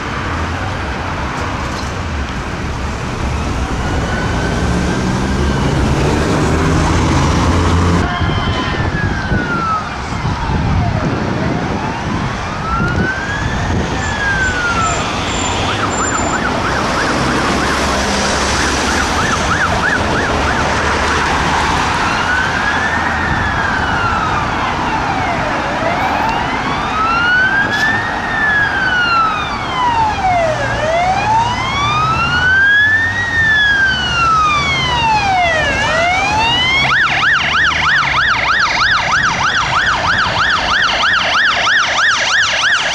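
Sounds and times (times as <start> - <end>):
road traffic: 0.0 - 42.9
fire engine siren wailing: 2.5 - 42.9.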